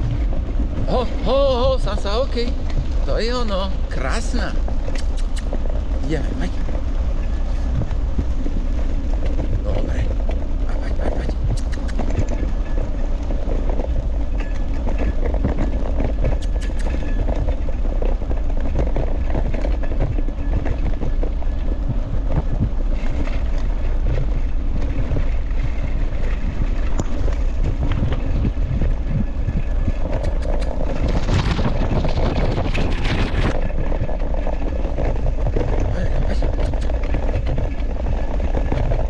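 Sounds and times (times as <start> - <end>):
scooter rolling over bumpy trail: 0.0 - 39.0
wind buffeting microphone: 0.0 - 39.0.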